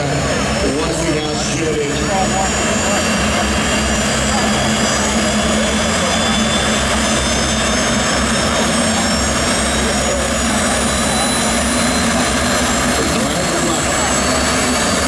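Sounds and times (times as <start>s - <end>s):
jet engine running with turbine whine: 0.0s - 15.0s.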